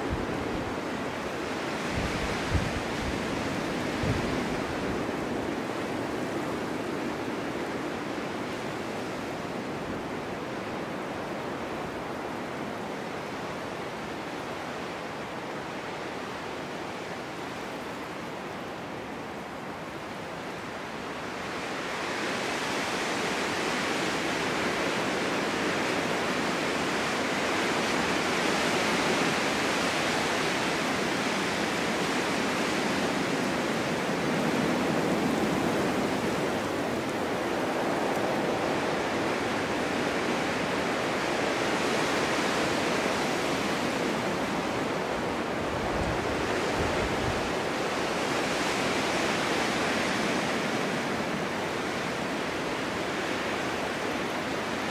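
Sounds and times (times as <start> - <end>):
snowstorm wind blowing: 0.0 - 54.9.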